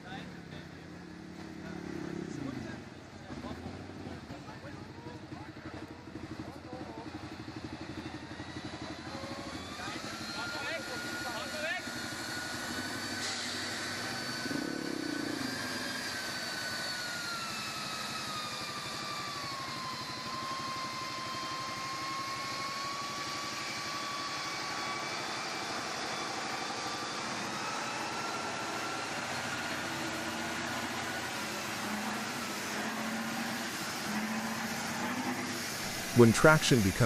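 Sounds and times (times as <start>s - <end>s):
off-road vehicle engine straining: 0.0s - 37.0s.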